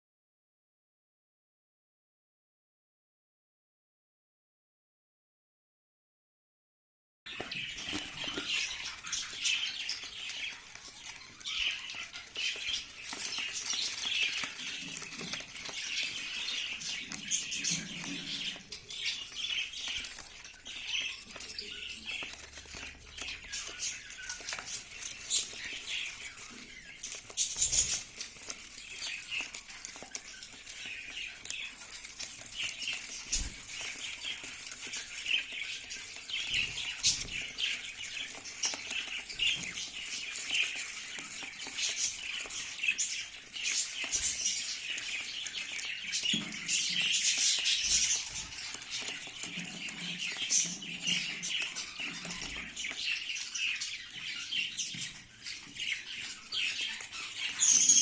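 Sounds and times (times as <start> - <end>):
budgerigars chirping and chattering: 7.3 - 58.0.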